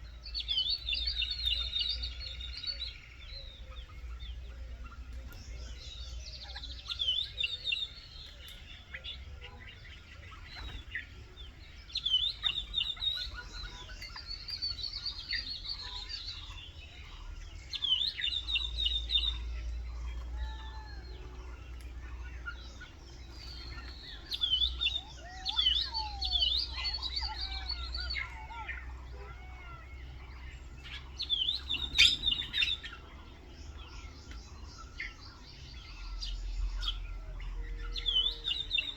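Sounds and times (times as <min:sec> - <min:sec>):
birds chirping and singing: 0:00.0 - 0:38.9
whistled bird calls: 0:00.0 - 0:38.9.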